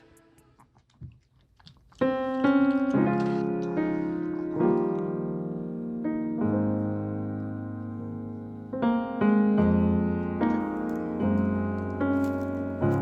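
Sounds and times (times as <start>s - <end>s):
soft piano chords: 2.1s - 13.0s.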